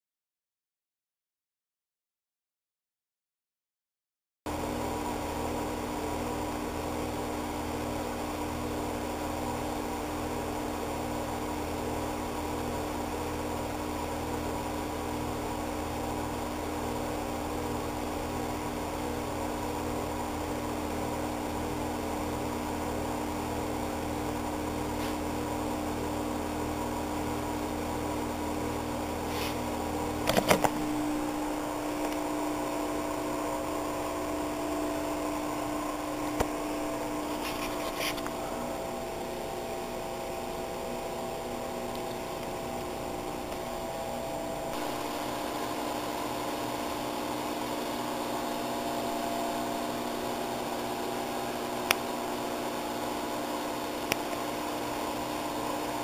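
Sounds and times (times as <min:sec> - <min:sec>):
steady mechanical hum: 0:04.5 - 0:56.0.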